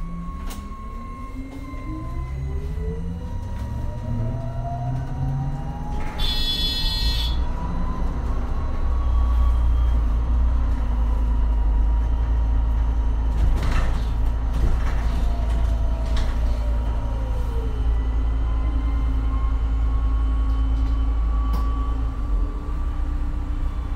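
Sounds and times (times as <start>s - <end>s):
bus electric drive whine: 0.0s - 23.9s.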